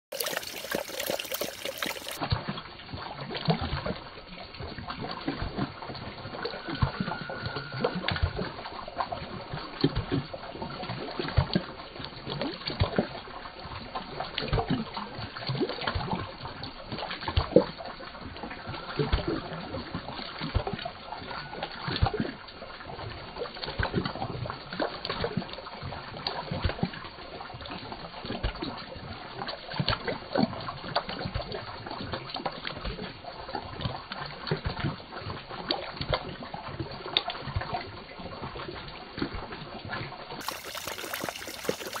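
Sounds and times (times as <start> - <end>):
dog lapping water: 0.1 - 42.0.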